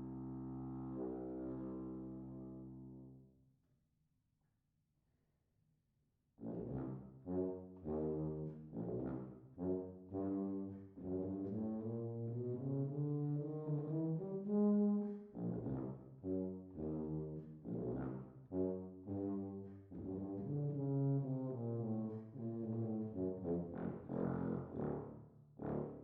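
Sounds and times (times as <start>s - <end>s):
low brass instrument solo: 0.0s - 3.2s, 6.4s - 26.0s.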